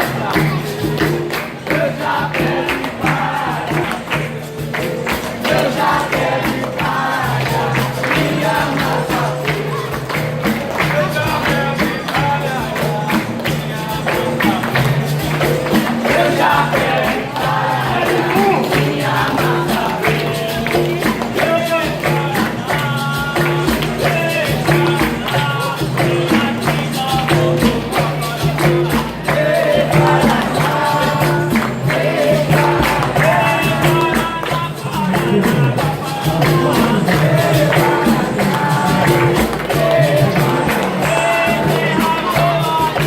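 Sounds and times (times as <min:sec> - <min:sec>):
group singing: 0:00.0 - 0:43.0
pandeiro rhythm: 0:00.0 - 0:43.0.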